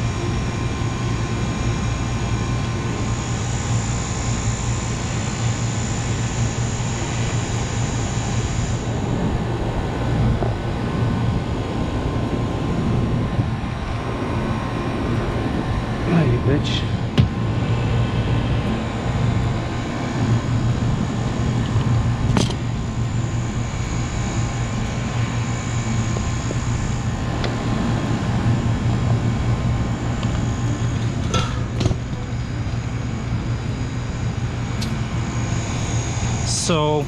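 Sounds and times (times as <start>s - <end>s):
refrigeration compressor humming: 0.0s - 37.0s.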